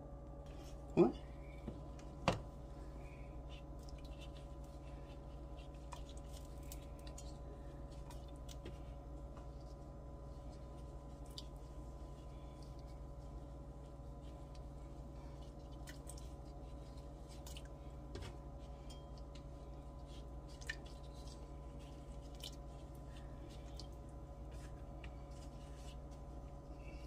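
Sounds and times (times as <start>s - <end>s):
steady low hum: 0.0s - 27.0s
soft squishy handling sounds: 0.4s - 27.0s.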